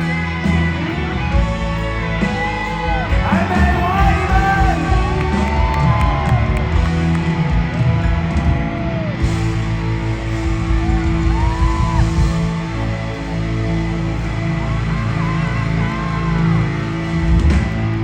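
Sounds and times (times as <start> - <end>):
bass guitar: 0.0 - 18.0
drums: 0.0 - 18.0.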